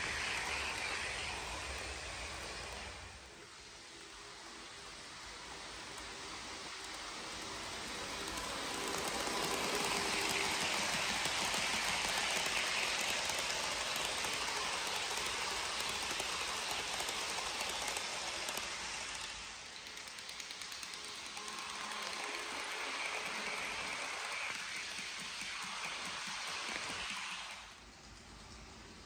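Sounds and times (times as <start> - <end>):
model train wheels clicking: 0.0 - 29.0.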